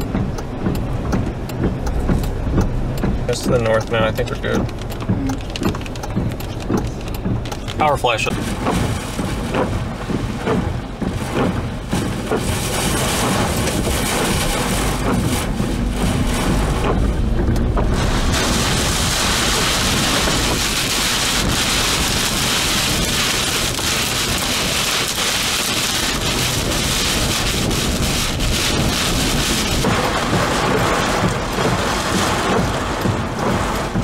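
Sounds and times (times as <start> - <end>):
heavy rain beating on vehicle: 0.0 - 34.0
low wind rumble: 0.0 - 34.0.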